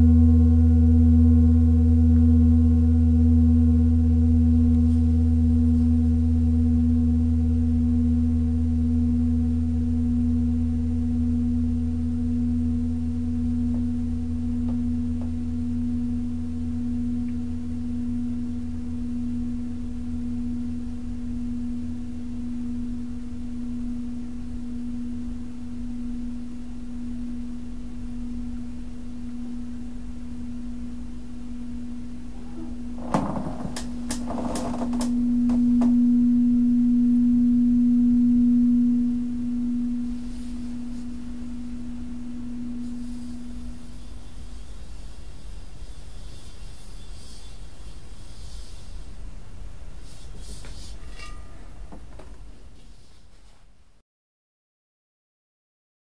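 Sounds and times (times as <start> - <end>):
singing bowl ringing: 0.0 - 33.4, 34.3 - 45.3, 51.0 - 51.9.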